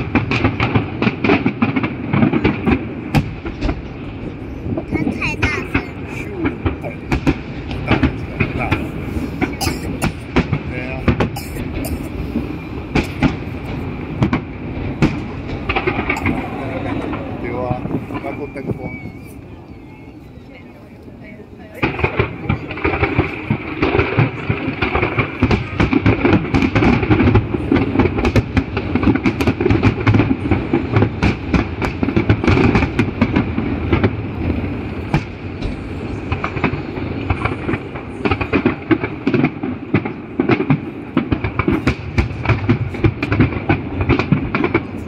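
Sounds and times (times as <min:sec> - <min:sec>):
fireworks bangs and crackling: 0:00.0 - 0:45.0.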